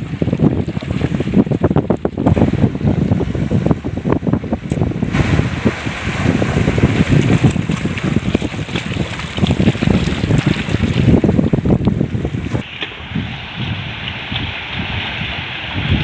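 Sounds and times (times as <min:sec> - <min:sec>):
surf splashing: 0:00.0 - 0:16.0
wind buffeting microphone: 0:00.0 - 0:16.0.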